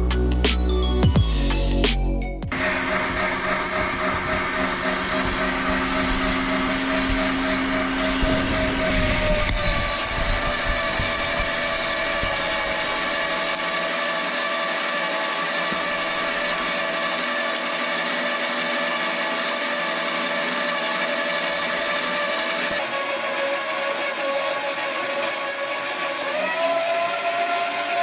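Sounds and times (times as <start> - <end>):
electric meat grinder whining: 2.5 - 28.0.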